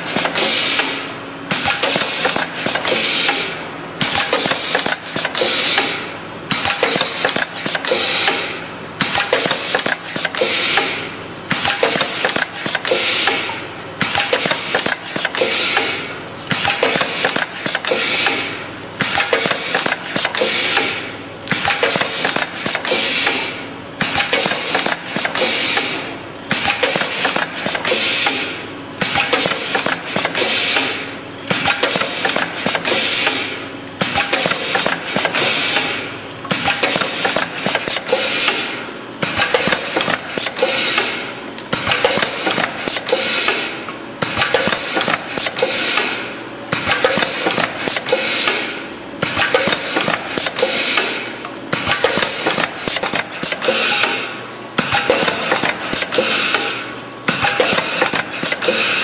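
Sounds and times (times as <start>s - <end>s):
metallic clacks of machine: 0.0s - 59.0s
pneumatic exhaust hiss: 0.1s - 3.5s, 4.1s - 8.5s, 9.1s - 13.4s, 14.2s - 16.0s, 16.6s - 59.0s.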